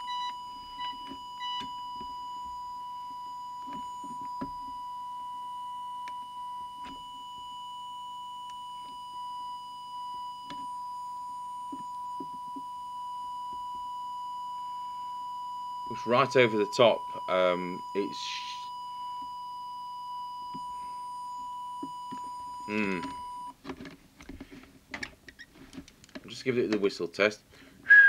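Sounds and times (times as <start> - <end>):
steady test tone: 0.0 - 23.5.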